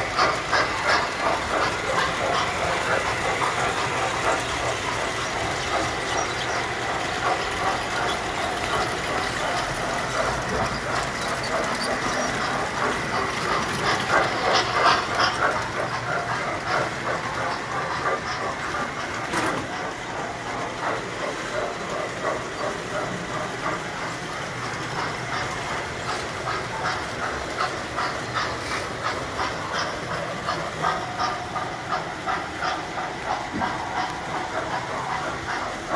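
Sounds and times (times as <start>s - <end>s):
model train wheels clicking: 0.0s - 35.9s.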